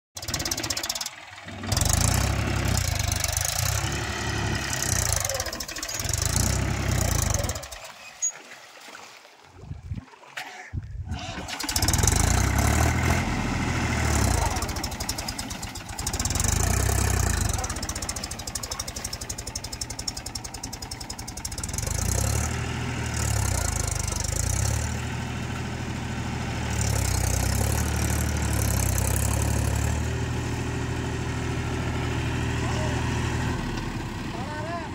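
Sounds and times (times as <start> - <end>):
diesel tractor engine running hard: 0.2 - 7.8, 11.1 - 34.9.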